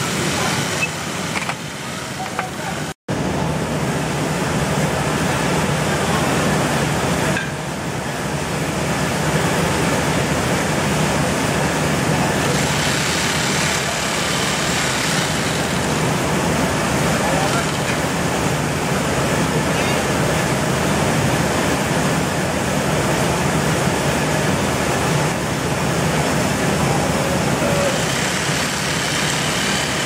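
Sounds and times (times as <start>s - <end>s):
rice-milling machinery running: 0.0s - 30.0s.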